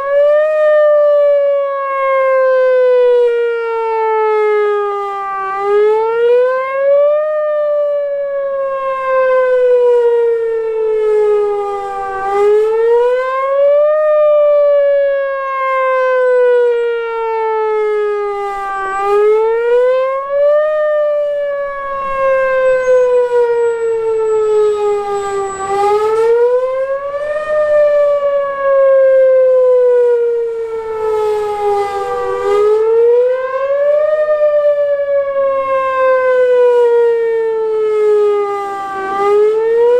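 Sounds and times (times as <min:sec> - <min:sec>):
warning siren rising and falling: 0:00.0 - 0:39.9.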